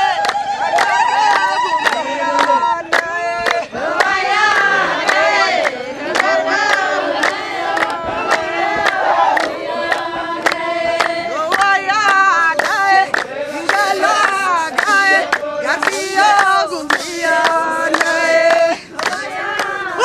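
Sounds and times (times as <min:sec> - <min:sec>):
crowd singing: 0:00.0 - 0:20.0
sharp hand claps: 0:00.2 - 0:19.8.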